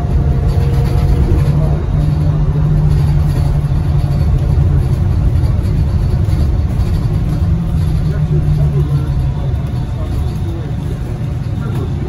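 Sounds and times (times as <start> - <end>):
continuous low hum: 0.0 - 12.0
rumble of tyres on road: 0.0 - 12.0.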